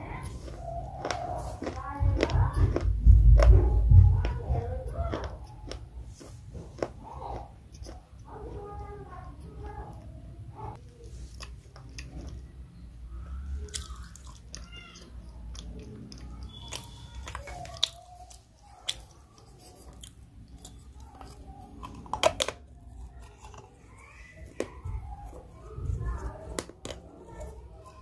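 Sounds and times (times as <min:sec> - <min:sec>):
wet chewing of crunchy food: 0:00.0 - 0:10.1, 0:10.7 - 0:28.0.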